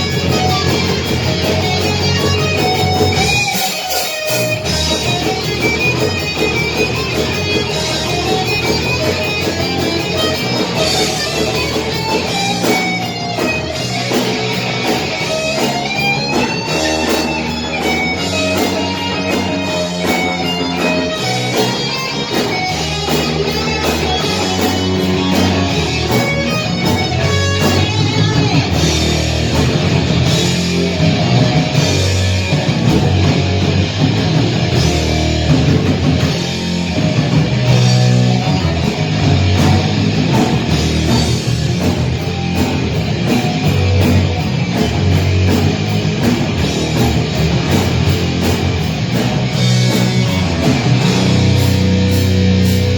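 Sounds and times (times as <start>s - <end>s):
guitar with bending notes: 0.0s - 52.9s
rock band playing: 0.0s - 52.9s.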